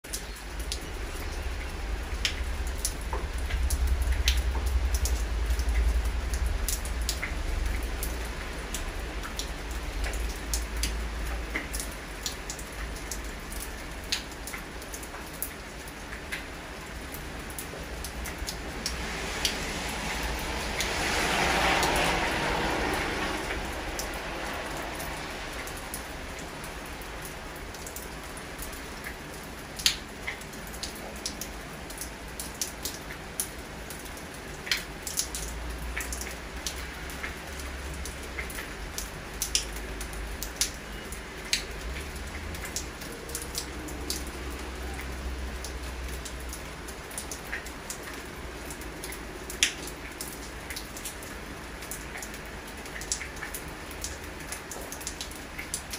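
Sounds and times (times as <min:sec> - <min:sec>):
raindrops dripping close by: 0:00.0 - 0:55.9
steady rain: 0:00.0 - 0:55.9
car passing on wet road: 0:00.4 - 0:55.9.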